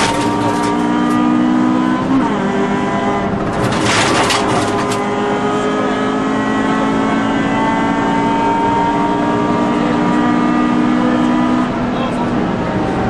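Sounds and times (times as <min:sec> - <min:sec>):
rally car engine from inside: 0:00.0 - 0:13.0.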